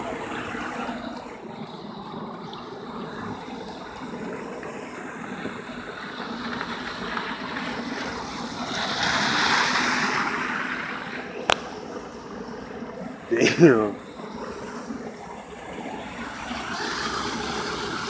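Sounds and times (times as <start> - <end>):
water rushing through drain: 0.0 - 18.0.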